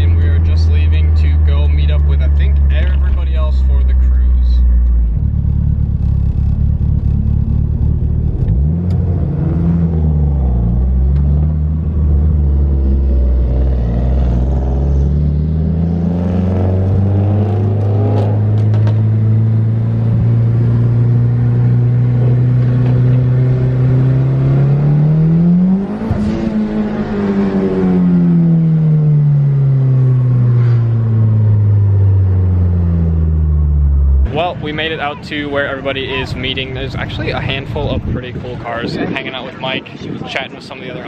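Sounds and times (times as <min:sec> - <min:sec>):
turbocharged car engine driving: 0:00.0 - 0:41.0.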